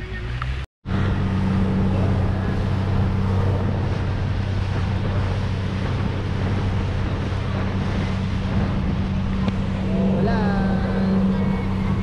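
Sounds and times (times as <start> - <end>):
boat engine droning: 0.0 - 12.0
rushing water: 0.0 - 12.0
wind: 0.0 - 12.0.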